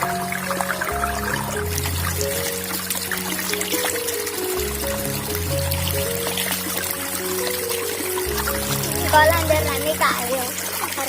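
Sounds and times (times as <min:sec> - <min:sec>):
background music with bass: 0:00.0 - 0:10.7
water trickling: 0:00.0 - 0:11.0.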